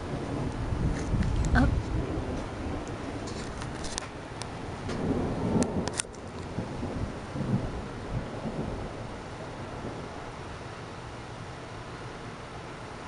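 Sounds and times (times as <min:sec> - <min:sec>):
low thunder rumbling: 0:00.0 - 0:11.6.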